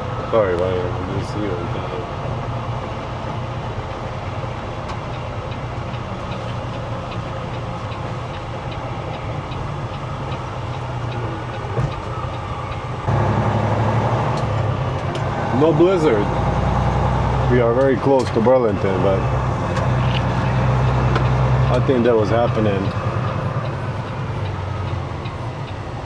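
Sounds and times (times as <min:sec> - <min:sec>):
diesel truck engine running: 0:00.0 - 0:26.0
light regular ticking: 0:02.2 - 0:11.6, 0:12.2 - 0:26.0.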